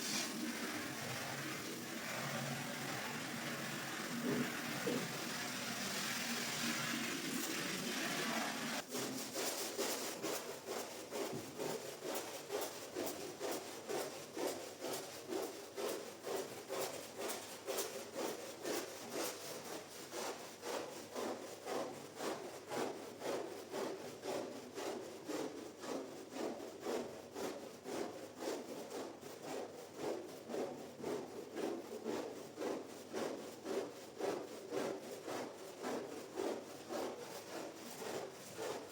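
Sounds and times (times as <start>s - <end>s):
scrubbing wet rug: 0.0s - 38.9s.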